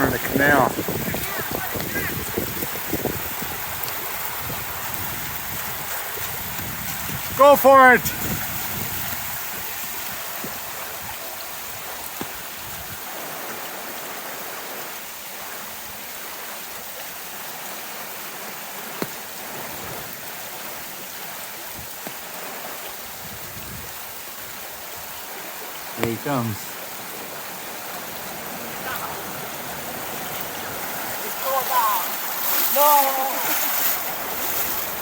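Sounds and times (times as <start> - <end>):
floodwater rushing down a road: 0.0 - 35.0.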